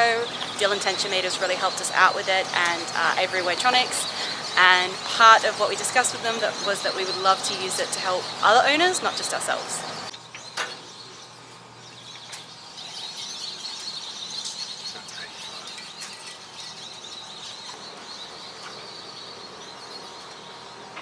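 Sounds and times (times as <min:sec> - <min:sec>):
birds chirping and twittering: 0:00.0 - 0:21.0.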